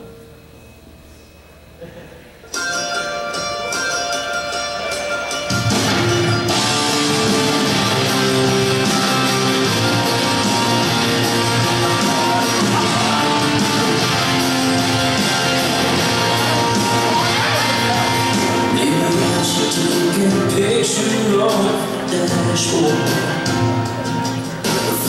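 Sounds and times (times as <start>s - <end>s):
guitar rock music over loudspeakers: 2.5s - 25.0s.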